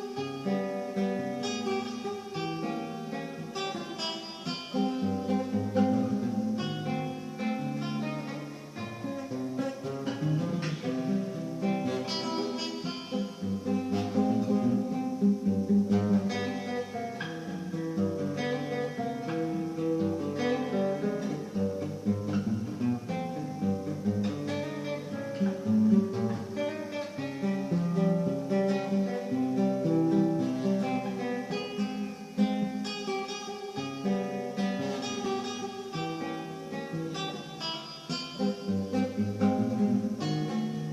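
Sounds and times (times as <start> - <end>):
acoustic guitar music: 0.0 - 40.9.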